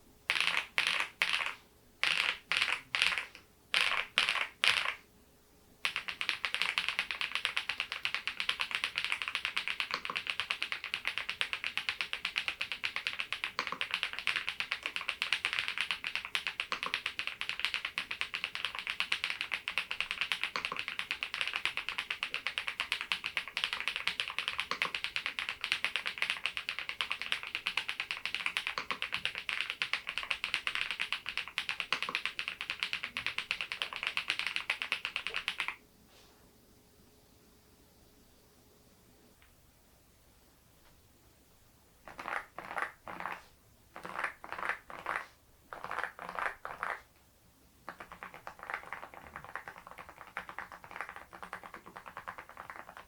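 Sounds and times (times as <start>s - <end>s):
mechanical keyboard typing: 0.3s - 5.0s, 5.8s - 35.8s, 44.0s - 47.0s, 47.9s - 53.0s.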